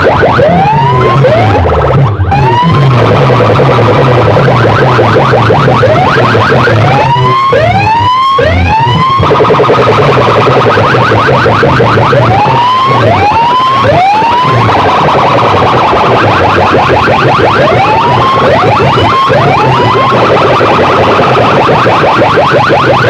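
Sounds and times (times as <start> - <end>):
pulsing bass: 0.0 - 23.0
warbling siren tones: 0.0 - 23.0.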